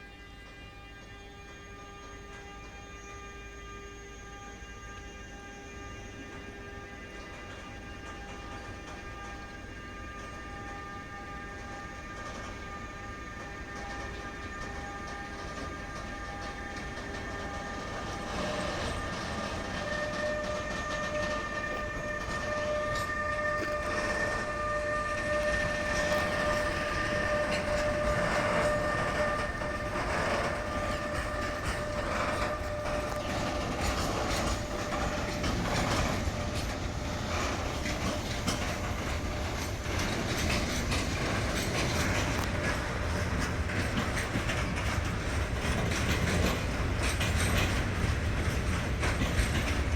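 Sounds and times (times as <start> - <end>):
train steady whine: 0.0 - 49.9
wheels clattering over rail joints: 7.1 - 49.9.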